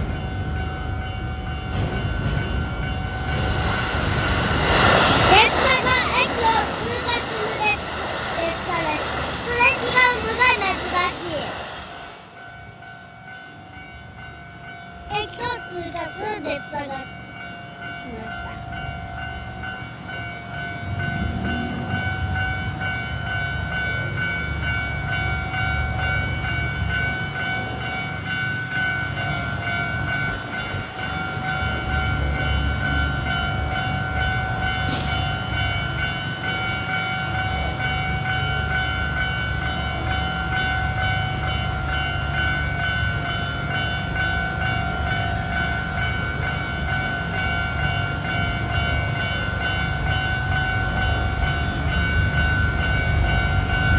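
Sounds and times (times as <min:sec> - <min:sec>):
level crossing warning bell: 0:00.0 - 0:53.9
train rumbling over crossing: 0:00.0 - 0:53.9.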